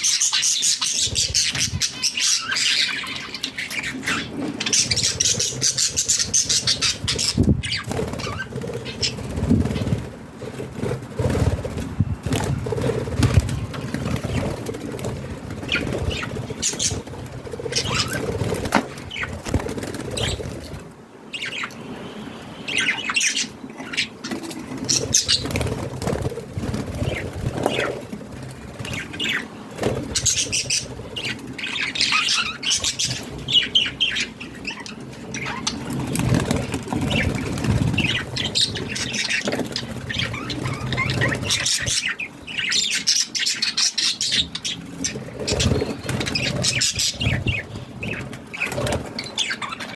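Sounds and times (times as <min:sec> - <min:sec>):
budgerigars chirping: 0:00.0 - 0:10.0, 0:15.5 - 0:20.7, 0:21.4 - 0:21.9, 0:22.6 - 0:28.0, 0:28.8 - 0:49.9
wings flapping: 0:00.1 - 0:21.6, 0:24.2 - 0:49.9.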